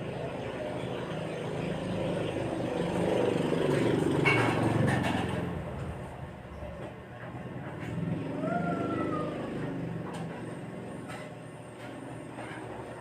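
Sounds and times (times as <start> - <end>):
motor vehicle passing by: 0.0 - 13.0.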